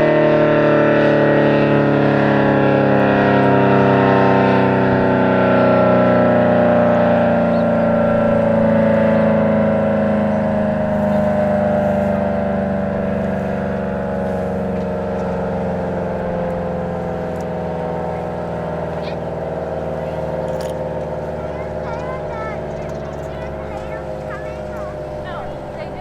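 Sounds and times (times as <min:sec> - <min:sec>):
siren winding down: 0:00.0 - 0:26.0.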